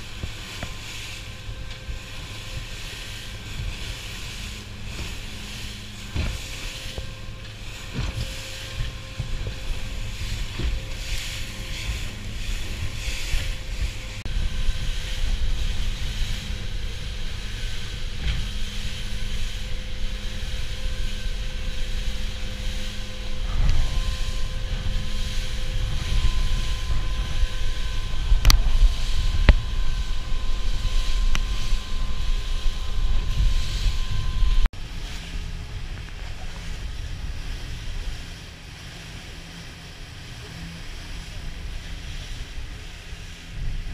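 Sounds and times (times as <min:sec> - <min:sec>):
boat engine hum: 0:00.0 - 0:43.9
rushing water: 0:00.0 - 0:43.9
wind buffeting microphone: 0:00.0 - 0:43.9.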